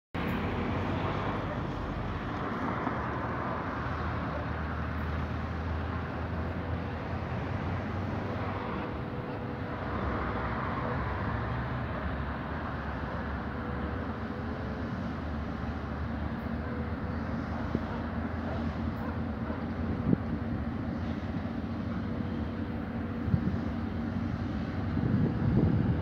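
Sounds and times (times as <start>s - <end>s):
locomotive diesel engine rumble: 0.2s - 26.0s
outdoor noise: 0.2s - 26.0s.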